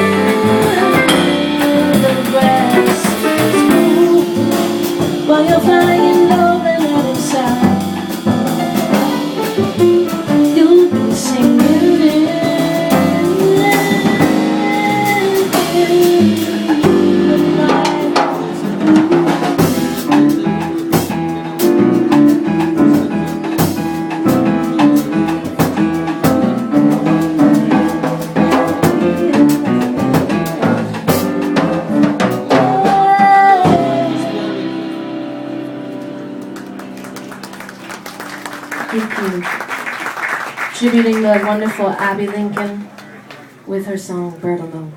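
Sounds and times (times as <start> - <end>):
busy drum kit and percussion: 0.0 - 44.2
latin jazz band playing: 0.0 - 44.2.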